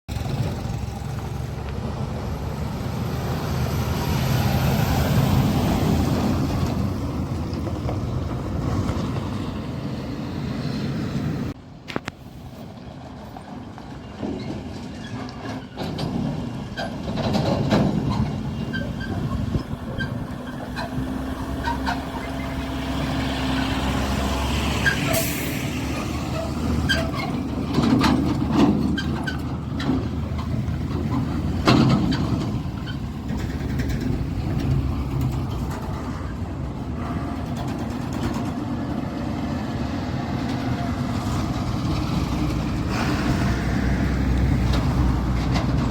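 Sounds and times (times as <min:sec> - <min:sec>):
diesel engines running: 0:00.1 - 0:45.9.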